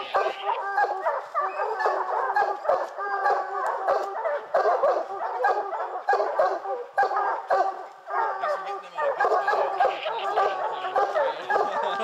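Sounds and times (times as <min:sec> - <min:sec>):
hounds barking and baying: 0:00.0 - 0:12.0.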